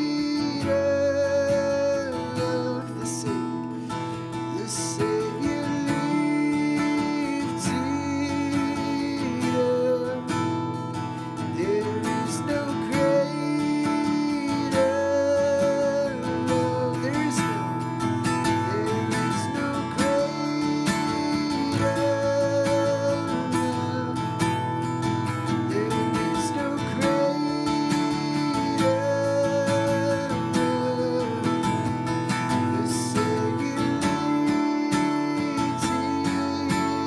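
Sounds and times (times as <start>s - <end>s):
acoustic guitar music: 0.0s - 37.0s.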